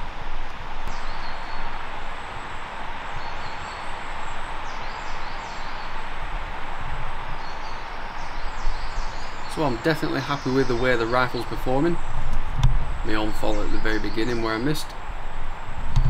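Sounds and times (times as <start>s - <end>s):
steady woodland hiss: 0.0s - 16.0s
small birds calling: 0.8s - 15.2s.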